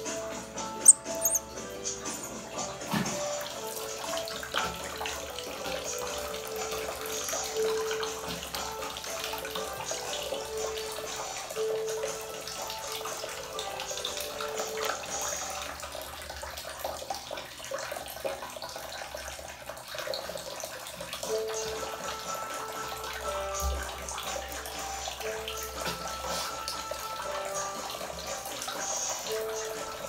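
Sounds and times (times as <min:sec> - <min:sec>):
background music with held notes: 0:00.0 - 0:30.0.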